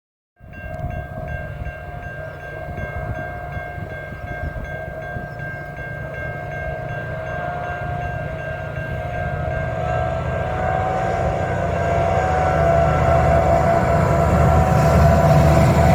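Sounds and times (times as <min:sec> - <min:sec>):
train rumbling: 0:00.4 - 0:15.9
long steady tone: 0:01.9 - 0:15.9.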